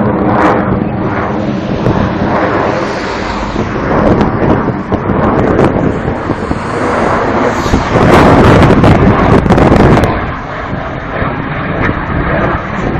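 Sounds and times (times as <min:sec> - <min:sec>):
aircraft flying past: 0:00.0 - 0:12.9.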